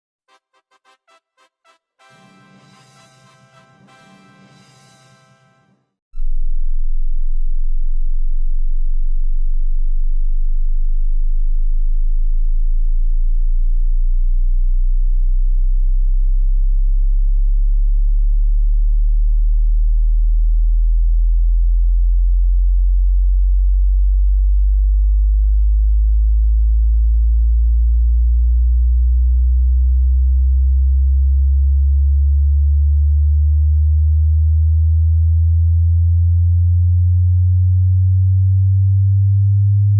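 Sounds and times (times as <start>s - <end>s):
rising sine-wave bass tone: 6.2s - 39.9s.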